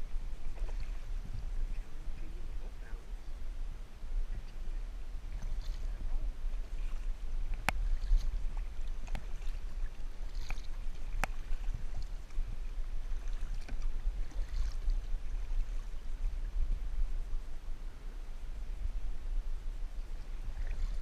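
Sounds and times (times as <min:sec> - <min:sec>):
steady low rumble: 0:00.0 - 0:21.0
water lapping around kayak: 0:00.0 - 0:21.0.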